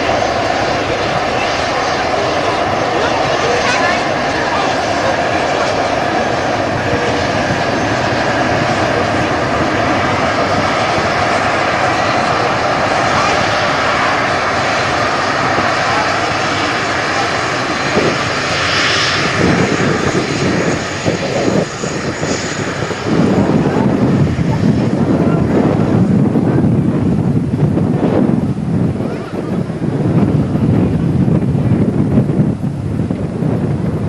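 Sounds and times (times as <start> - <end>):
airliner engines roaring: 0.0 - 34.0
wind buffeting microphone: 0.0 - 34.0.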